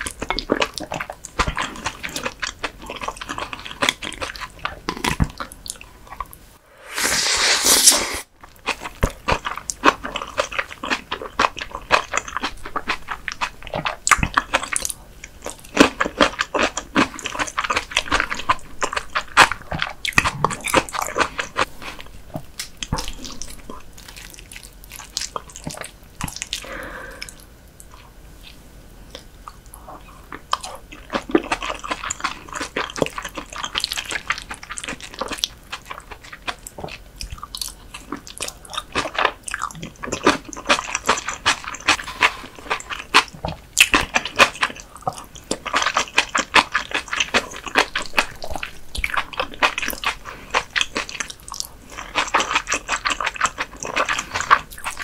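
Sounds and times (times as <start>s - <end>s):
close chewing with mouth clicks: 0.0s - 6.4s, 8.4s - 55.0s.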